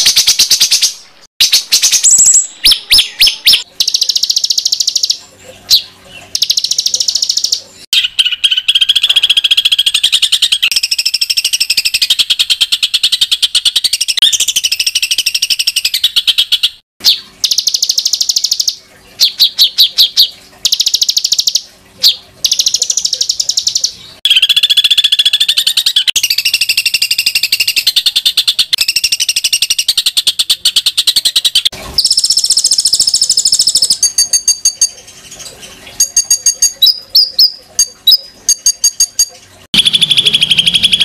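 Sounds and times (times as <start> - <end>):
songbirds singing: 0.0 - 39.2, 39.8 - 41.0.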